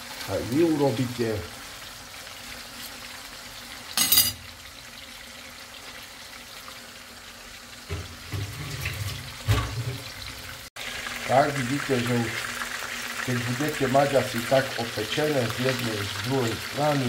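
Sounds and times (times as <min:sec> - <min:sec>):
chicken sizzling in hot oil: 0:00.0 - 0:17.0
oil crackle: 0:00.0 - 0:17.0.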